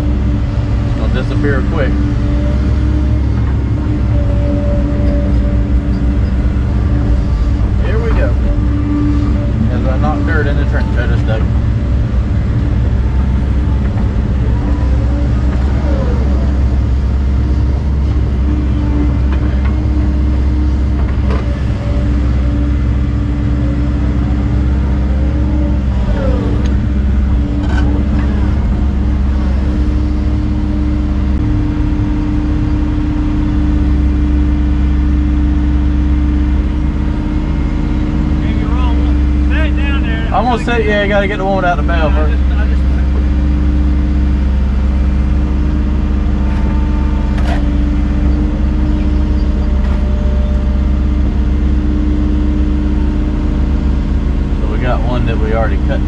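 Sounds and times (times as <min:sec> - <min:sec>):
excavator diesel engine running: 0:00.0 - 0:56.0
hydraulics whining: 0:00.0 - 0:56.0.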